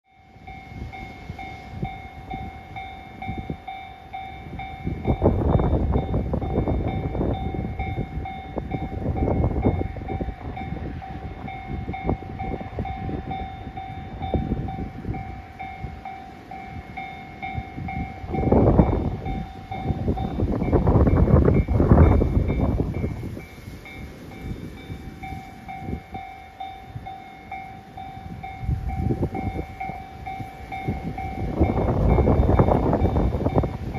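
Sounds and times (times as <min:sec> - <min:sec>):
level crossing bell ringing: 0:00.1 - 0:33.9
rumbling noise gusts: 0:00.2 - 0:33.9.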